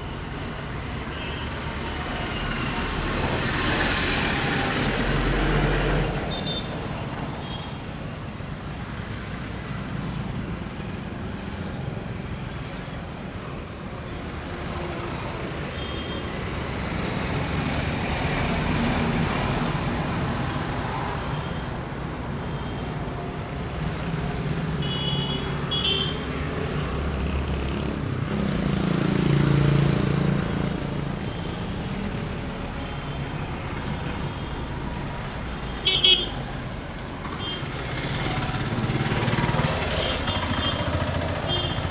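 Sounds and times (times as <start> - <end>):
passing vehicle engines rumble: 0.0 - 41.9.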